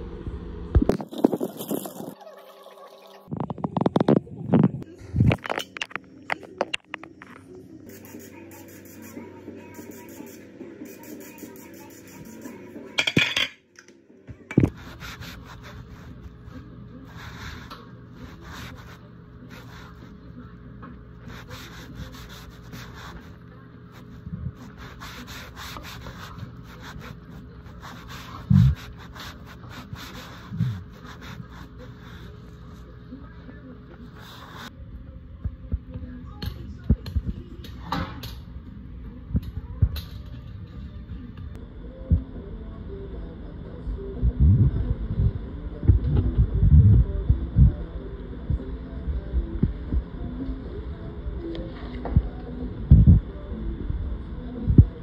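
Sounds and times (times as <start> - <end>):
steady low hum: 0.0 - 2.2, 3.2 - 55.0.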